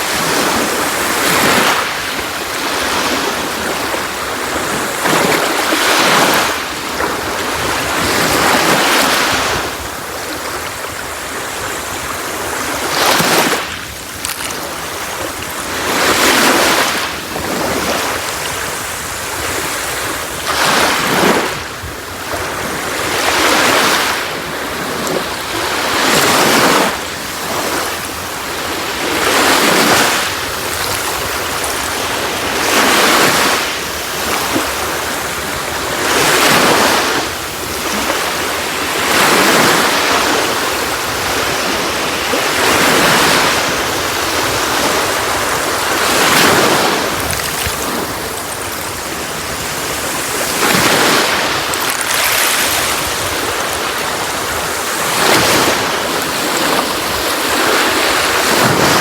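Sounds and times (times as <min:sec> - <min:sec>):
sea waves washing onto beach: 0:00.0 - 0:59.0.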